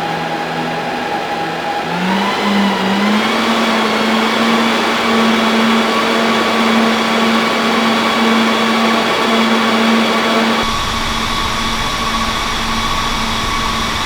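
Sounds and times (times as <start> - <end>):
cooling fans rushing air: 0.0 - 14.0
high fan whine: 0.0 - 14.0
low hum: 0.0 - 14.0.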